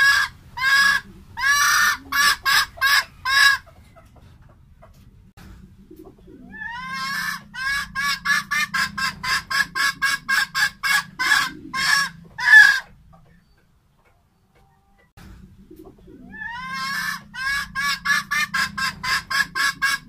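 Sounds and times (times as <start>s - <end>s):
hen cackling and clucking: 0.0s - 20.0s.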